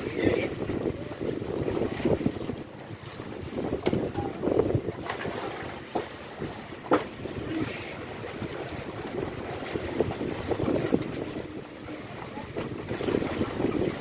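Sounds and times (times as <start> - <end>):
boat noise: 0.0 - 14.0
wind: 0.0 - 14.0.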